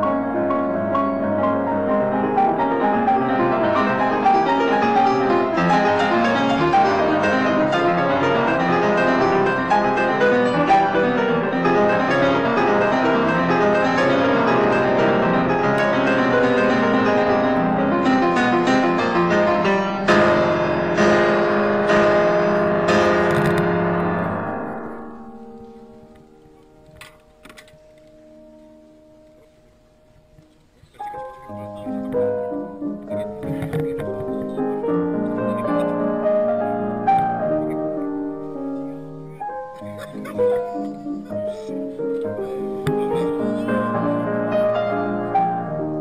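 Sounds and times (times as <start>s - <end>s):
loud piano chords: 0.0s - 30.2s, 30.9s - 46.0s
piano music: 0.0s - 46.0s.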